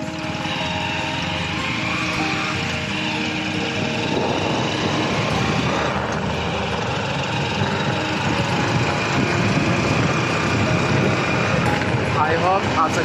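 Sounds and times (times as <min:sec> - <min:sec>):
motorcycle engine drone: 0:00.0 - 0:13.0
wind and road noise: 0:00.0 - 0:13.0.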